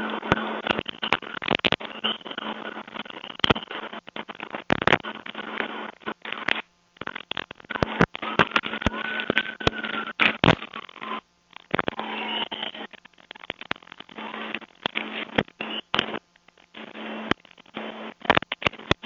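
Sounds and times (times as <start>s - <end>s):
microphone rubbing and crackling: 0.0s - 19.0s
steady electrical hum: 0.0s - 19.0s.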